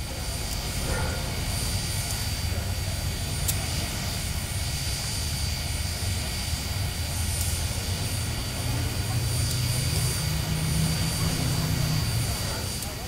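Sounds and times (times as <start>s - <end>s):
low vehicle rumble: 2.5s - 13.0s.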